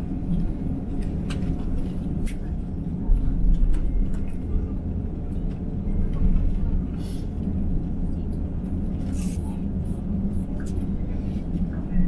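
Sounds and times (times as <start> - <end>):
aircraft engines idling rumble: 0.0 - 12.0
wheels rolling on taxiway: 0.0 - 12.0.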